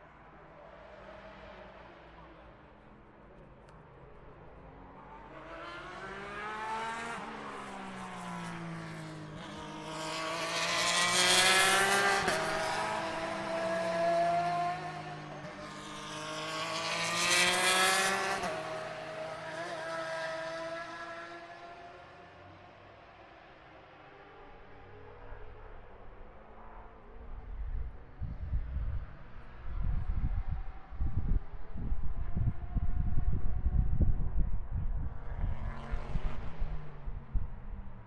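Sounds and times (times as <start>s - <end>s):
race cars passing: 0.0s - 38.0s.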